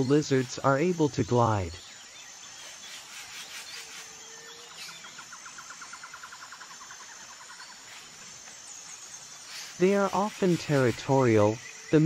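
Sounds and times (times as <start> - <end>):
high insect buzz: 0.0 - 12.0.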